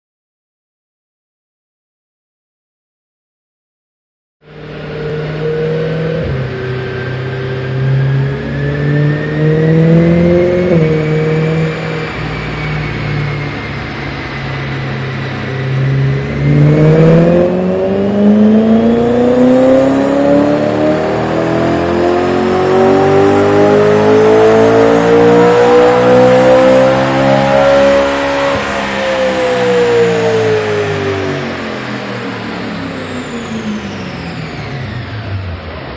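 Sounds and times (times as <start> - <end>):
car engine revving on dyno: 4.5 - 35.9
thin rising whine: 4.5 - 35.9.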